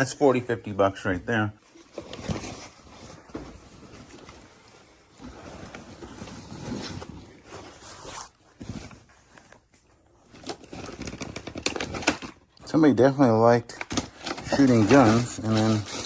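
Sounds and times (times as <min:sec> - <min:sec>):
rustling of stored items: 0:00.0 - 0:16.0.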